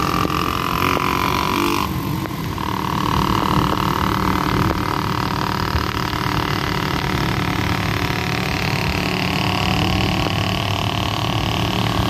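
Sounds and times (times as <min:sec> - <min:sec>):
motorcycle engine running: 0:00.0 - 0:12.0
road noise on wet road: 0:00.0 - 0:12.0.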